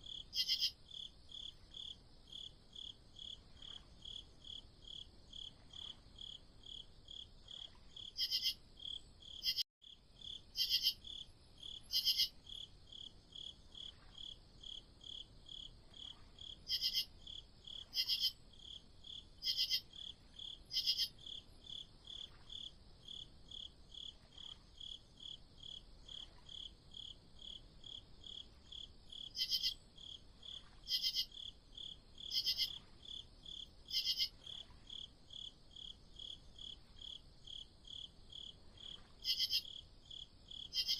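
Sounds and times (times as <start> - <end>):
crickets chirping: 0.0 - 40.9
louder cricket chirping: 0.0 - 40.9.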